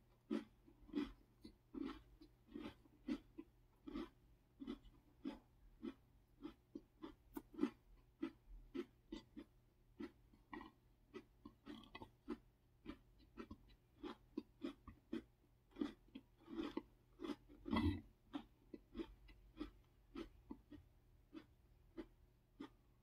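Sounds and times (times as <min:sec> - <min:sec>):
wet chewing clicks: 0:00.2 - 0:22.8.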